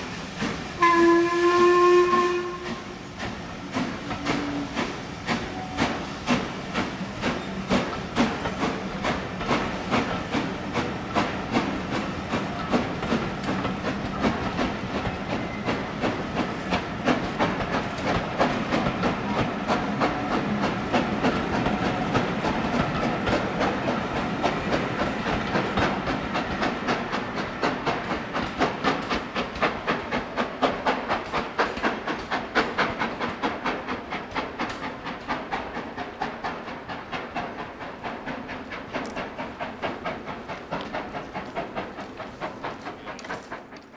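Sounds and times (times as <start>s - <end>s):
locomotive steam hiss: 0.0s - 43.9s
train wheels clattering over rail joints: 0.0s - 43.9s.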